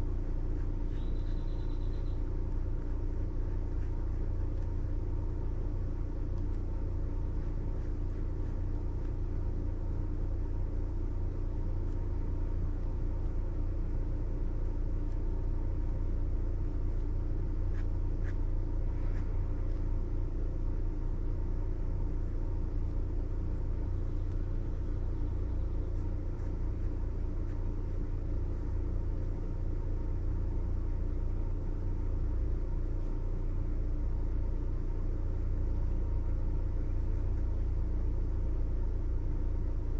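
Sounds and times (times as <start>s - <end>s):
faint steady tonal hum: 0.0s - 39.9s
low background rumble: 0.0s - 39.9s.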